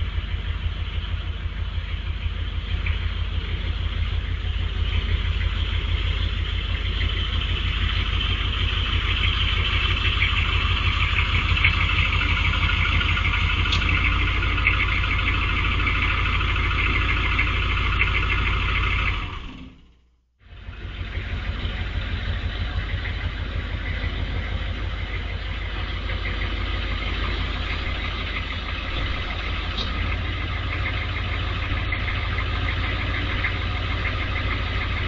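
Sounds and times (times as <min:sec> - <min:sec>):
pickup truck engine driving off: 0:00.0 - 0:35.0.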